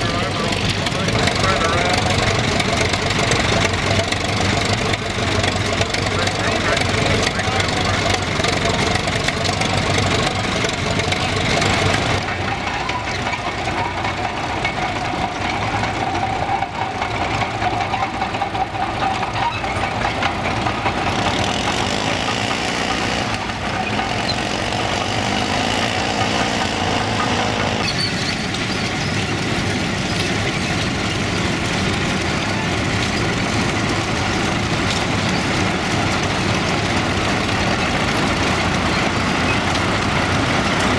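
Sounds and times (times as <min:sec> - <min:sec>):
crawler tractor engines running: 0:00.0 - 0:40.9.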